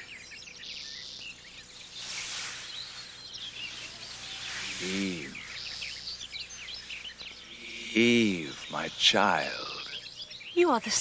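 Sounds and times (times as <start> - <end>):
birds chirping and twittering: 0.0 - 11.0
steady background hiss: 0.0 - 11.0.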